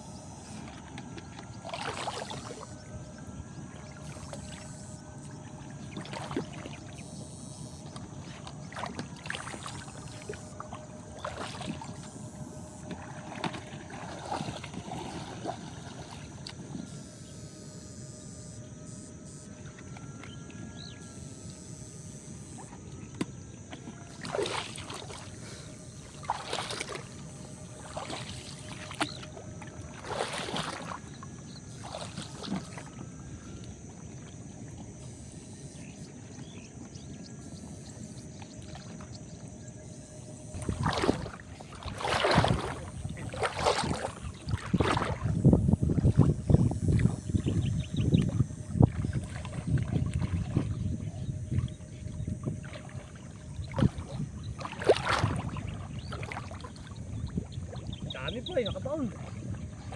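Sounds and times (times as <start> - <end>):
faint high whine: 0.0 - 59.9
water splashing and sloshing: 0.0 - 59.9.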